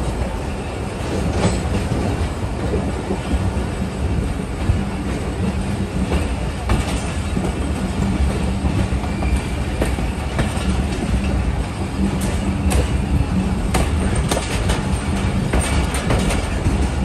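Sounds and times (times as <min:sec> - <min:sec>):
train wheels rumbling on rail: 0:00.0 - 0:17.0
wheels clacking over rail joints: 0:01.0 - 0:17.0.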